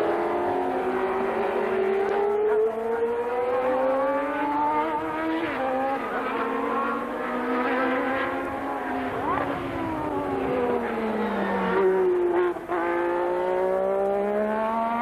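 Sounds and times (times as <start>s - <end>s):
lower racing engine note: 0.0s - 15.0s
racing car engine accelerating: 0.0s - 15.0s.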